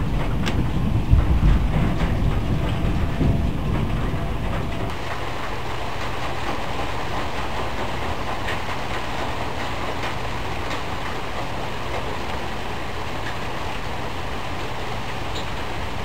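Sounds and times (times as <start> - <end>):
heavy rain falling: 0.0 - 16.0
low thunder rumble: 0.0 - 16.0.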